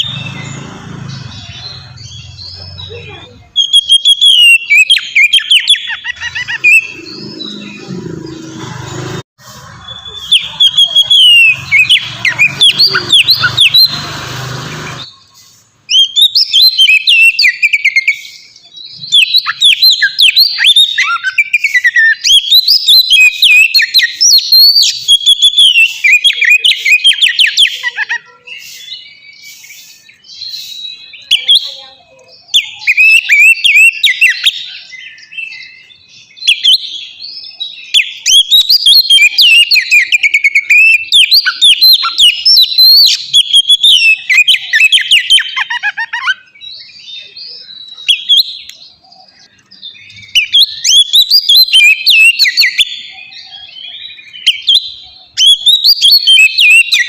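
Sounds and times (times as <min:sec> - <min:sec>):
songbird whistling and chattering: 0:00.0 - 0:57.0.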